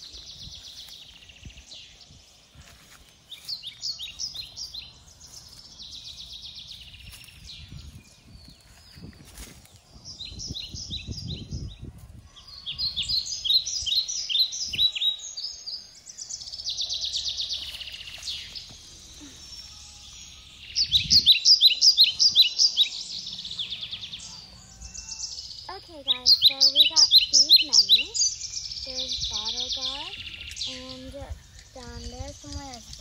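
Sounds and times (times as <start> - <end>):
leaves and vines rustling: 0.0 - 10.4, 16.1 - 33.0
songbird chirping and trilling: 0.0 - 33.0.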